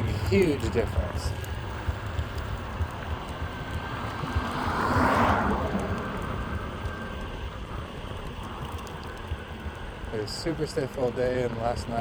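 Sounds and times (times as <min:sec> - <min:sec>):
car passing: 0:00.0 - 0:12.0
skateboard wheels rumbling on pavement: 0:00.0 - 0:12.0
wind: 0:00.0 - 0:12.0.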